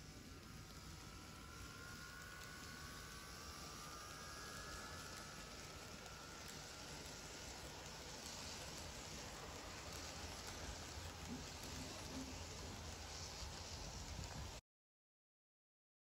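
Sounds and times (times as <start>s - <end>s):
model train cars rolling: 0.0s - 14.6s.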